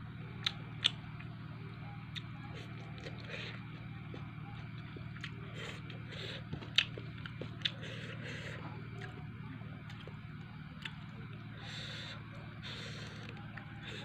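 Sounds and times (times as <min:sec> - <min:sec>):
steady low hum: 0:00.0 - 0:14.0
chewing and mouth sounds: 0:00.4 - 0:01.4, 0:02.0 - 0:14.0.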